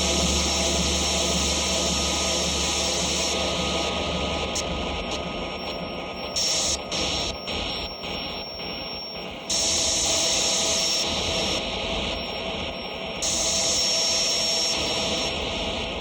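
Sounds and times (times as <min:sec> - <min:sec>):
electronic static noise: 0:00.0 - 0:16.0.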